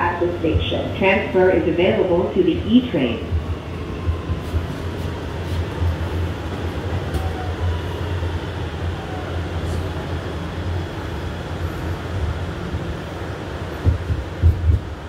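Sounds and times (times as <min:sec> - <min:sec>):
faint train whine: 0:00.0 - 0:15.0
low rumble of train wheels: 0:00.0 - 0:15.0.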